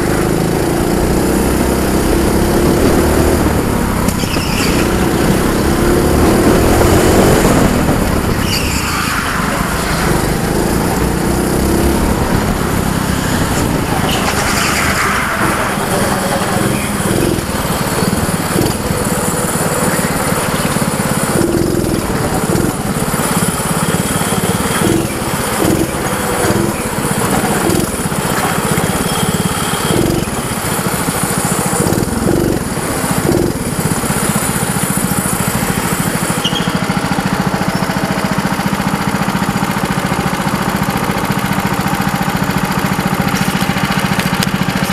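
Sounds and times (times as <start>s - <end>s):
go-kart engine running: 0.0s - 44.9s.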